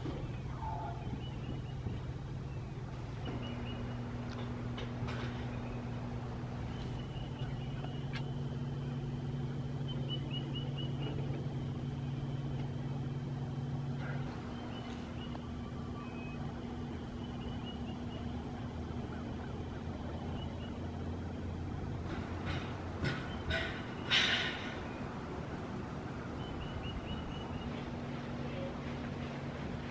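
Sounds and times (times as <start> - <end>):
low motor hum: 0.0 - 29.9.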